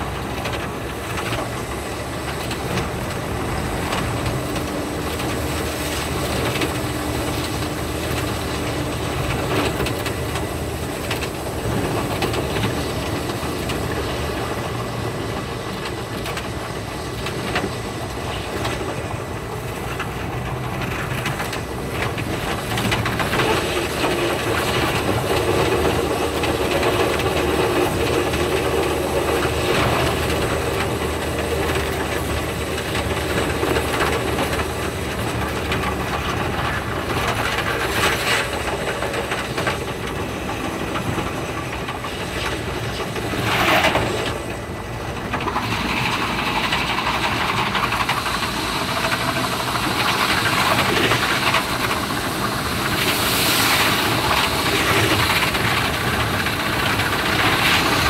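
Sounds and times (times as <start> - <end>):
train rumble: 0.0 - 58.0
wheels clicking over rails: 0.0 - 58.0.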